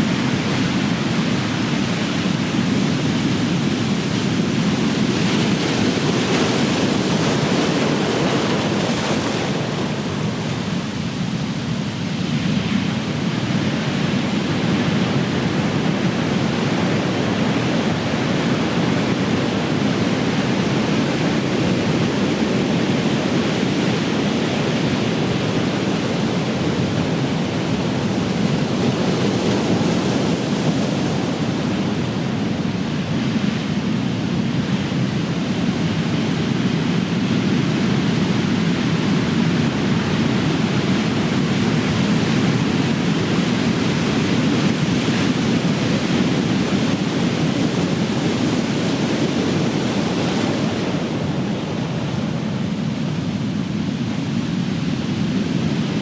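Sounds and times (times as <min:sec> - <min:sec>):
ocean waves crashing on shore: 0:00.0 - 0:56.0.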